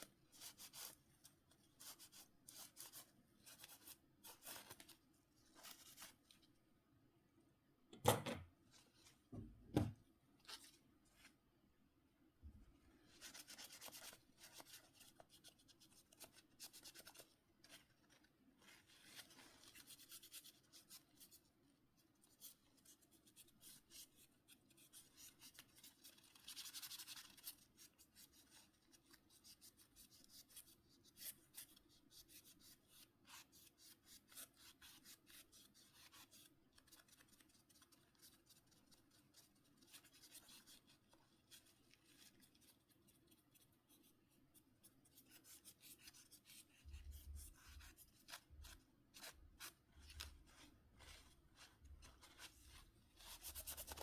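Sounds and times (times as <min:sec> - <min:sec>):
rubbing and scratching strokes: 0:00.0 - 0:06.5, 0:12.8 - 0:54.0.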